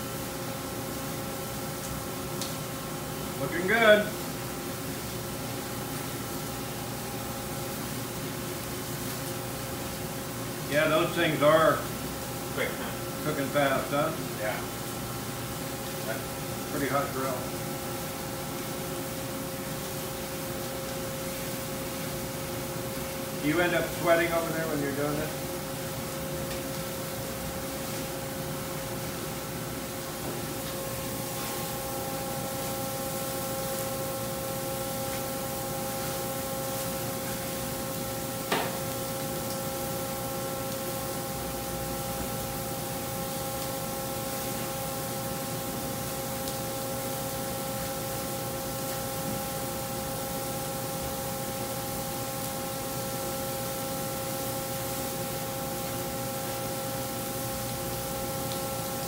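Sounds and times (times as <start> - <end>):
burger patties sizzling: 0.9 - 59.0.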